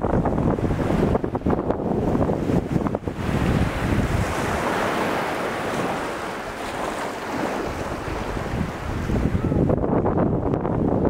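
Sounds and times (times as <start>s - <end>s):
ocean surf against rocks: 0.0s - 11.0s
wind buffeting microphone: 0.0s - 11.0s.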